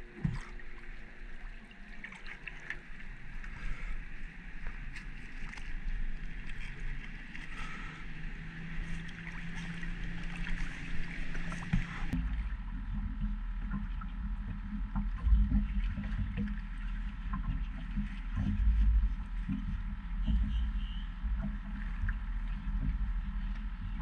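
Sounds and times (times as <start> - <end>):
water splashing against a hull: 0.0 - 24.0
low rumble: 2.9 - 24.0.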